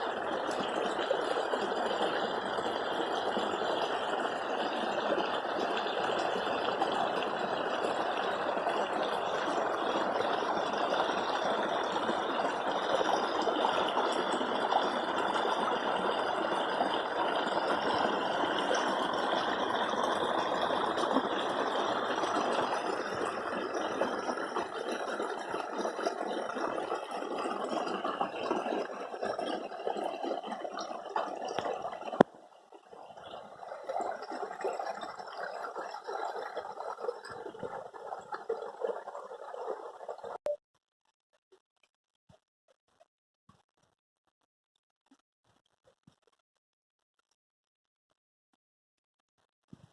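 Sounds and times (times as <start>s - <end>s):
flowing water rushing: 0.0s - 40.4s.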